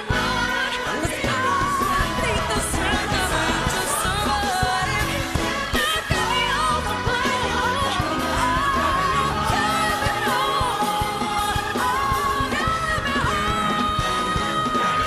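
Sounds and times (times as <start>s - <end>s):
full band playing: 0.0s - 15.0s
woman singing with vibrato: 0.0s - 15.0s.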